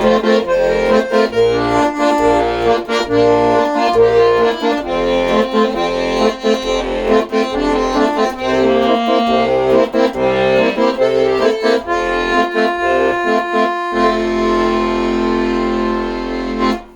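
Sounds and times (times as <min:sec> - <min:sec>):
accordion playing a tune: 0:00.0 - 0:16.9.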